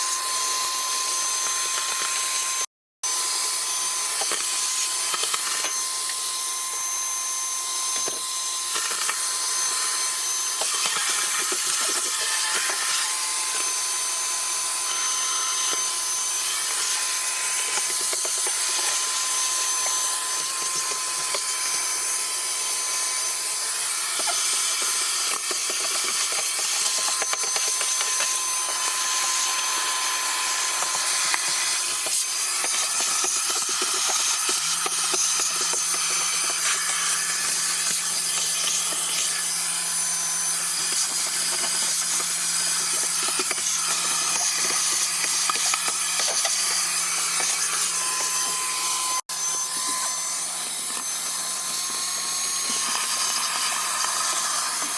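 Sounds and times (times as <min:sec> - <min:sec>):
shop vacuum running: 0:00.0 - 0:54.9.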